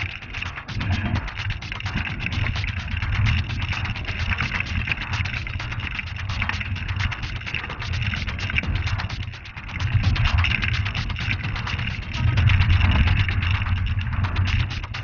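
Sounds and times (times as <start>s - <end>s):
bike rattling over stones: 0.0s - 15.0s
low rumble: 0.0s - 15.0s.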